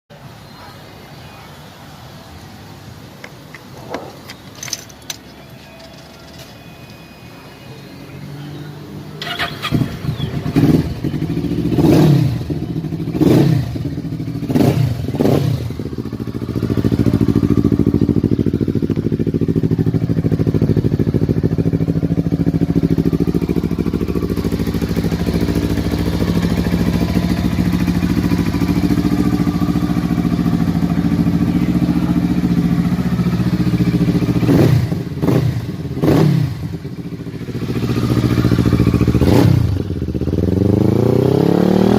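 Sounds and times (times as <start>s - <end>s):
motorcycle engine revving: 7.9s - 41.9s.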